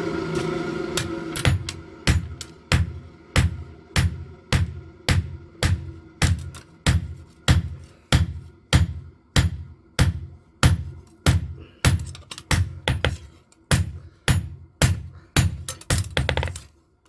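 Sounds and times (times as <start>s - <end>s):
hammer blows on an anvil: 1.0s - 16.0s.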